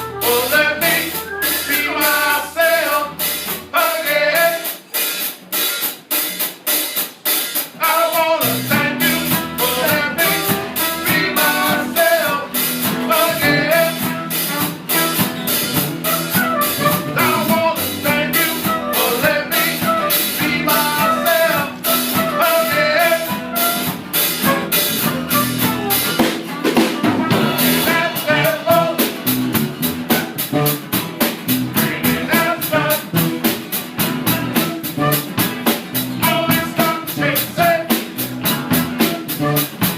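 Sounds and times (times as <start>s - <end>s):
bass guitar: 0.0s - 4.4s, 7.6s - 39.9s
live band playing upbeat song: 0.0s - 39.9s.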